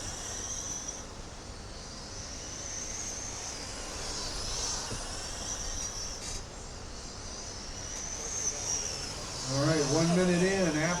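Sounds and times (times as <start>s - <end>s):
rc truck motors whining: 0.0s - 11.0s.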